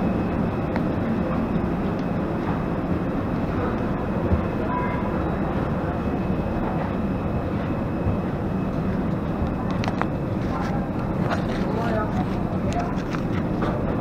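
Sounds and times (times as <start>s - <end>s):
machinery rumble and hiss: 0.0s - 14.0s.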